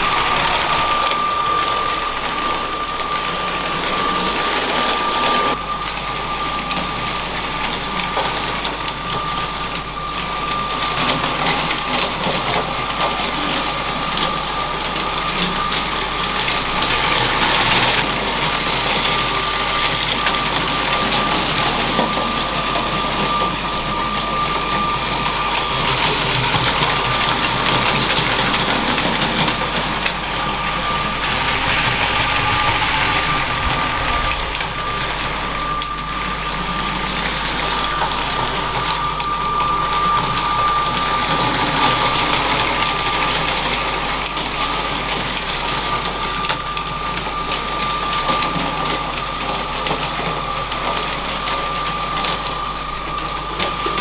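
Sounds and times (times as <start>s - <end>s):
electric motor whine: 0.0s - 54.0s
toy train wheels and gears: 0.0s - 54.0s.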